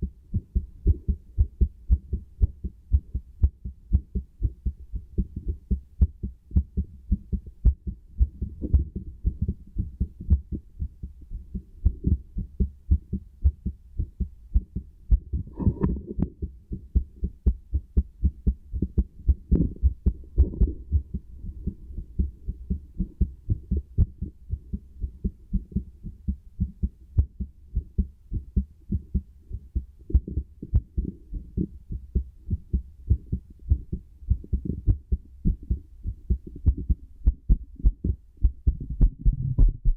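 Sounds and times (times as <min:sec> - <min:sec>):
heartbeat through a stethoscope: 0:00.0 - 0:39.9.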